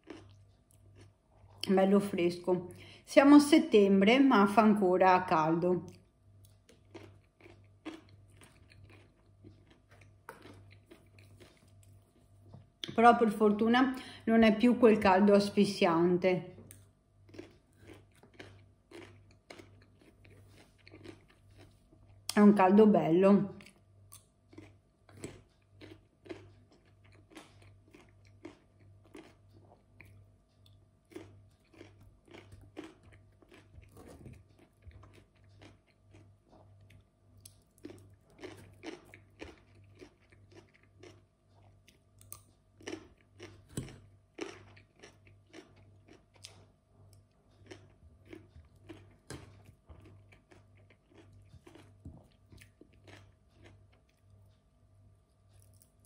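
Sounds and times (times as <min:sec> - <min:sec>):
chewing crunchy cucumber: 0:00.0 - 0:02.7, 0:05.8 - 0:13.6, 0:16.6 - 0:22.5, 0:23.4 - 0:56.0
faint electrical hum: 0:00.0 - 0:56.0.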